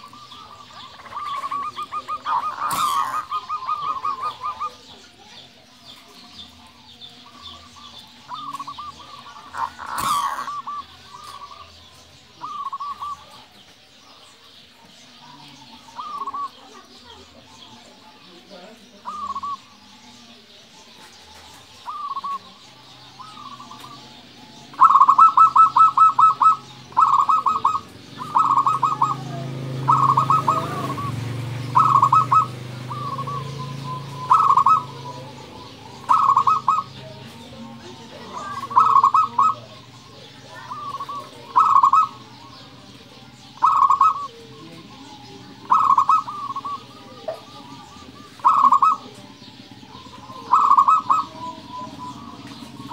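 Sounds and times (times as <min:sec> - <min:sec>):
dove cooing: 0:00.0 - 0:52.9.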